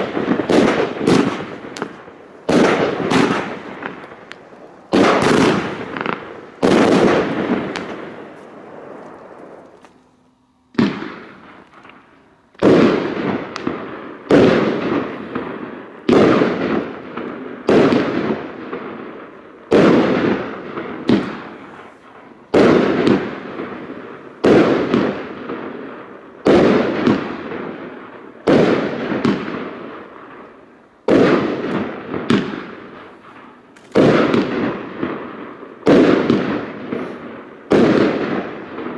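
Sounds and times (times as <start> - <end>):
firework shots banging: 0.0 - 38.9.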